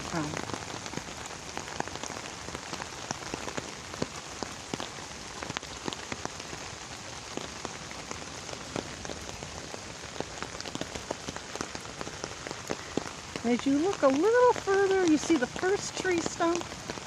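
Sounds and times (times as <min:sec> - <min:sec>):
heavy rain falling: 0:00.0 - 0:17.0
raindrops ticking on surface: 0:00.0 - 0:17.0.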